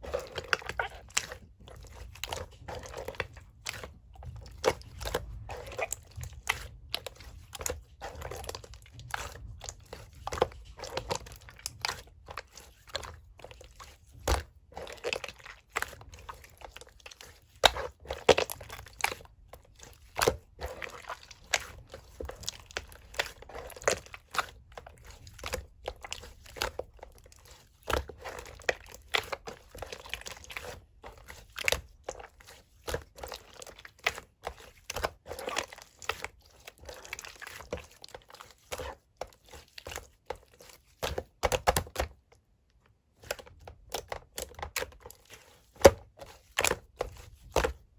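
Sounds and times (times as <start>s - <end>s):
wet squishing: 0.0s - 47.9s.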